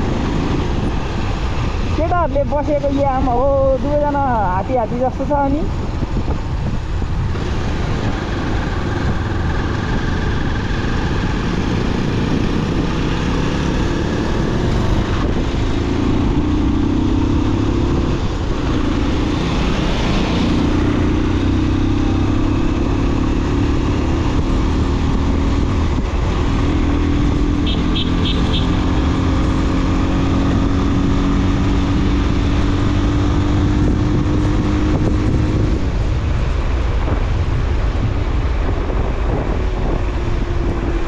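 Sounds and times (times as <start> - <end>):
motorcycle engine running: 6.0 - 41.0.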